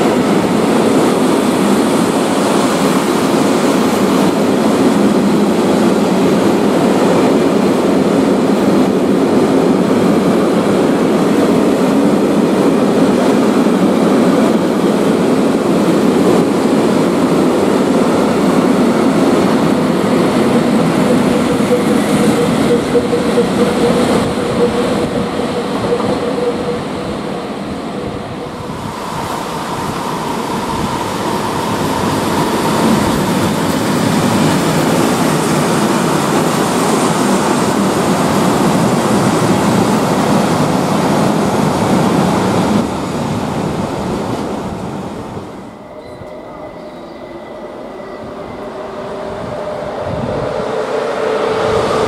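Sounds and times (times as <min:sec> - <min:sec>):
diesel locomotive engine: 0:00.0 - 0:52.0
electric locomotive hum: 0:00.0 - 0:52.0
wagons rumbling on rails: 0:00.0 - 0:52.0.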